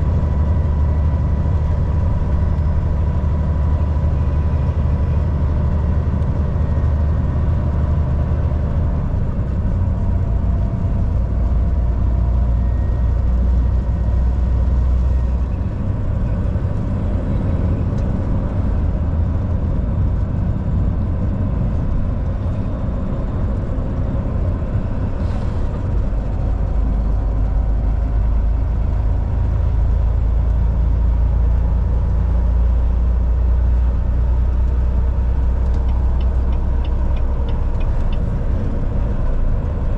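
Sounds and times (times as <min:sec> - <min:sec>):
road and tyre noise: 0:00.0 - 0:39.9
truck diesel engine running: 0:00.0 - 0:39.9.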